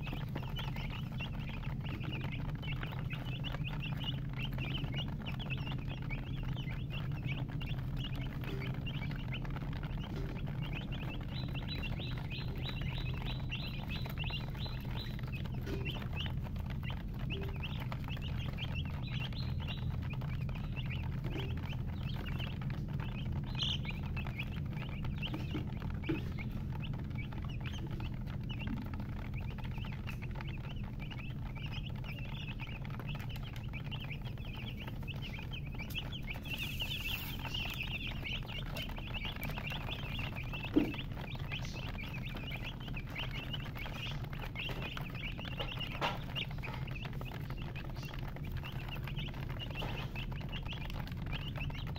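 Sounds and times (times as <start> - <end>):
baby chicks peeping: 0.0 - 51.9
steady low hum: 0.0 - 51.9.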